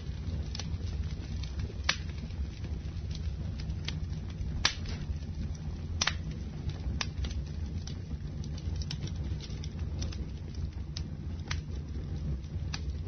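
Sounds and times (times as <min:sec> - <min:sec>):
campfire rumble: 0:00.0 - 0:13.0
fire crackling and popping: 0:00.0 - 0:13.0.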